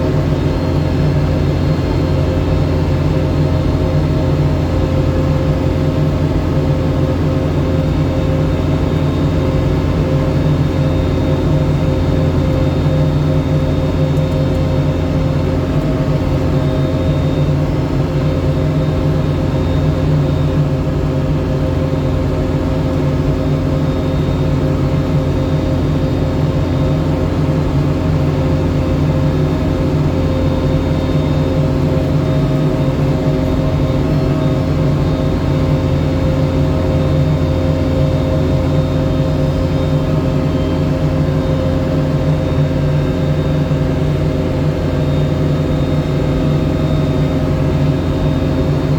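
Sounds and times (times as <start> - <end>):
snow-clearing machine engine humming: 0.0 - 48.9.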